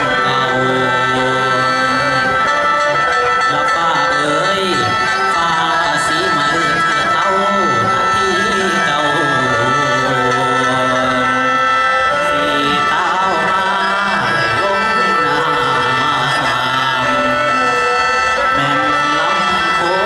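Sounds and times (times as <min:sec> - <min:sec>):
drone-like held tones: 0:00.0 - 0:20.0
person singing: 0:00.0 - 0:20.0.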